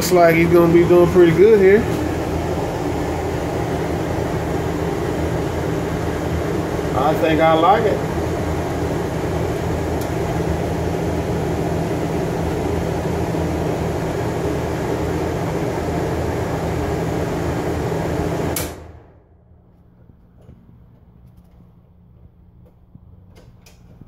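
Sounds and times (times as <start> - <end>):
air conditioning unit humming: 0.0 - 24.0.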